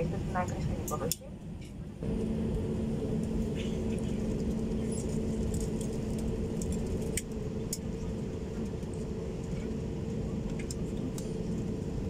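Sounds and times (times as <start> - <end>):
aircraft engines rumbling: 0.0 - 12.0
faint steady hum: 0.0 - 12.0.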